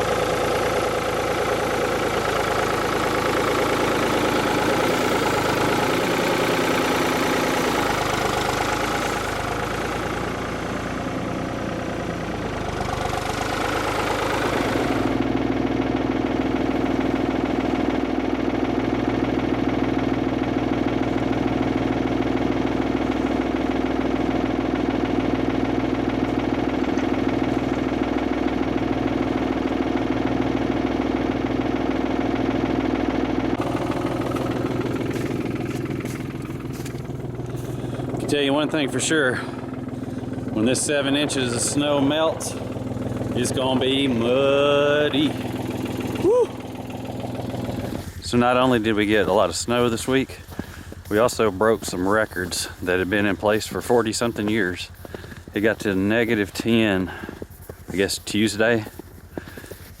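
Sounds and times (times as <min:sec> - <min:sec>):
tractor engine running: 0:00.0 - 1:00.0.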